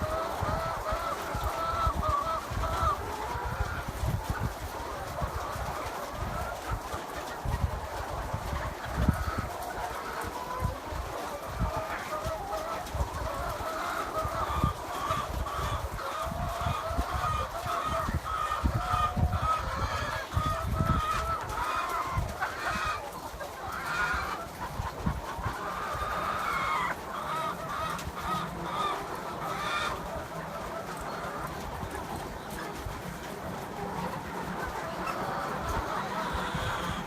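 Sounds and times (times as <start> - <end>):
hens clucking: 0.0 - 37.0.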